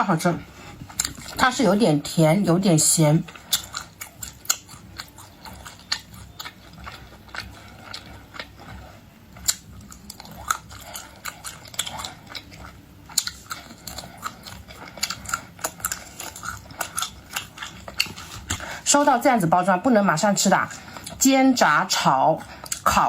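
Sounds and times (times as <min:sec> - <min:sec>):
chewing crispy pork: 0:00.0 - 0:23.0.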